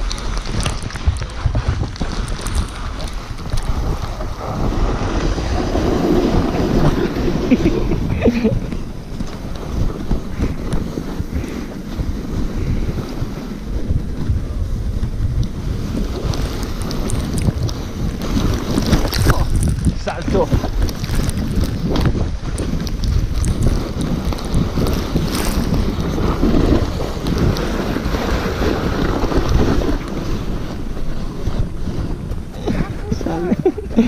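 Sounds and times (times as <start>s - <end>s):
sled runners scraping over snow: 0.0s - 34.0s
wind rushing over microphone: 0.0s - 34.0s.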